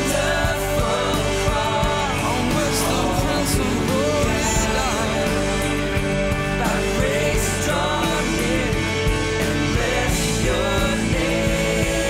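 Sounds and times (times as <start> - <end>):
worship song with band and singing: 0.0 - 12.0.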